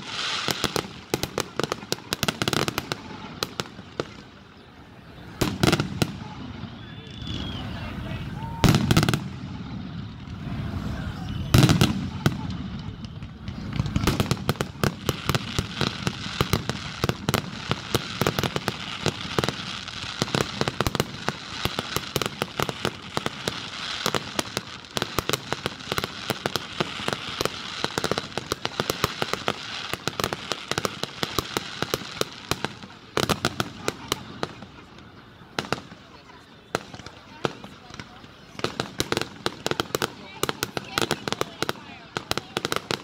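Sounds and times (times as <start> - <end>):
fireworks bursting: 0.0 - 43.0
fireworks crackle: 0.0 - 43.0.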